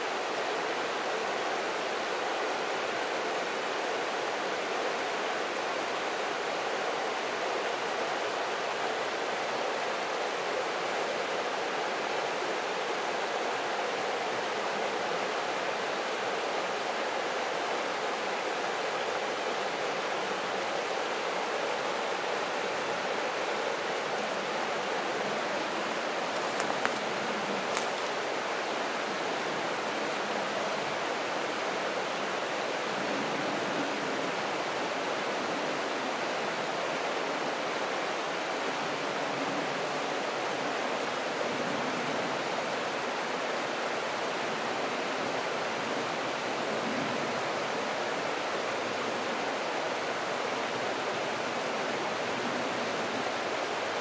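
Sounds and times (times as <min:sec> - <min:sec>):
river rippling over stones: 0:00.0 - 0:54.0.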